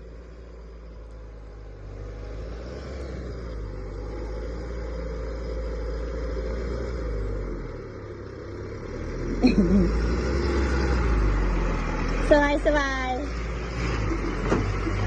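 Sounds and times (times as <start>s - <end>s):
diesel engine pulling under load: 0.0s - 15.0s.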